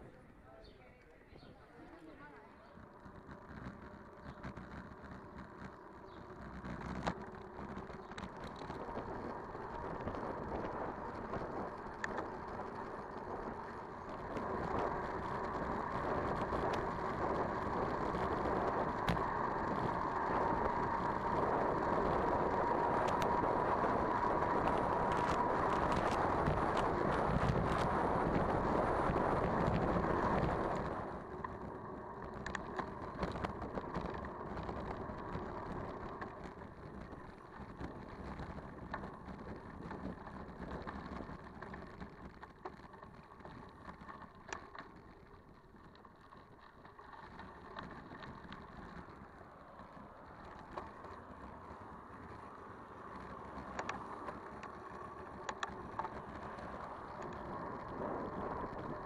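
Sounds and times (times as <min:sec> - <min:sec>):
bicycle tyre noise: 0:01.9 - 0:59.0
bike clicks and rattles: 0:02.1 - 0:59.0
rushing wind: 0:02.8 - 0:44.8, 0:45.7 - 0:59.0.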